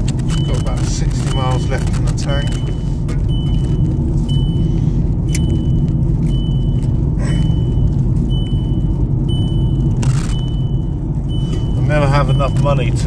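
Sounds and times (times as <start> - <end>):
road and engine rumble in car: 0.0 - 13.0
seatbelt warning chime beeping: 0.2 - 13.0.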